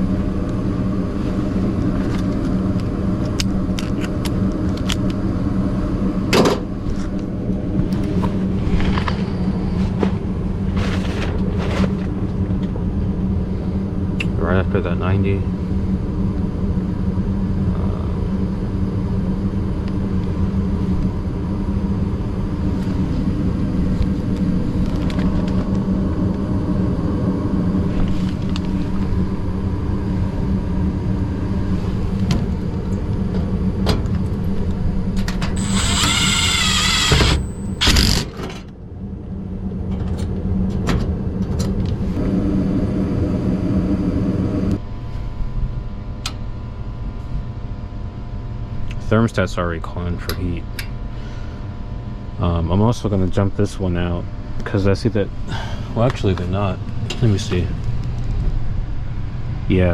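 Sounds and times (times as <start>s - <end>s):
gas furnace humming: 0.0s - 59.9s.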